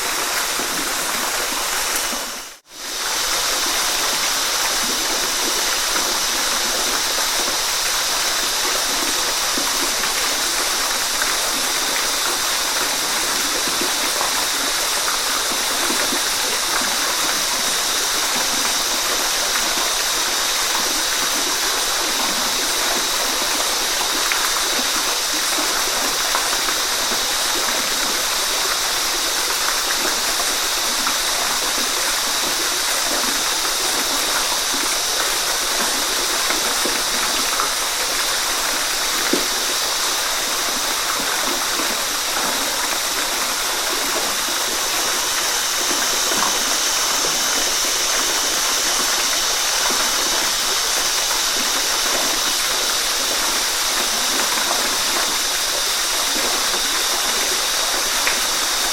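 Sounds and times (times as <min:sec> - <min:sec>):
water gurgles: 0:00.0 - 0:58.9
waterfall rushing: 0:00.0 - 0:58.9.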